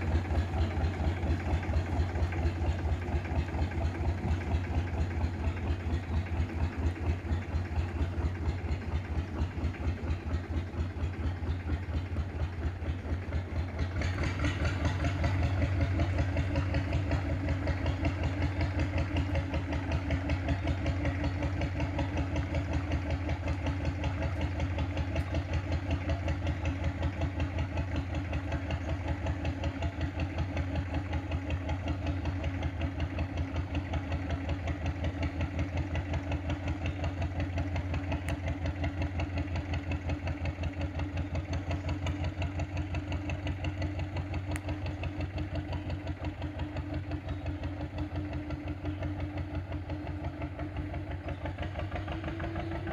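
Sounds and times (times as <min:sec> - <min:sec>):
boat engine chugging: 0:00.0 - 0:52.9.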